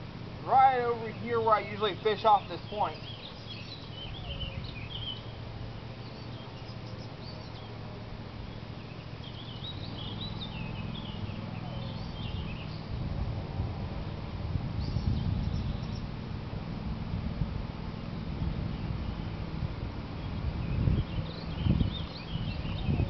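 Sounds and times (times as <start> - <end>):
songbirds chirping: 0.0 - 13.0, 14.0 - 16.2, 17.8 - 23.0
low steady rumble: 0.0 - 23.0.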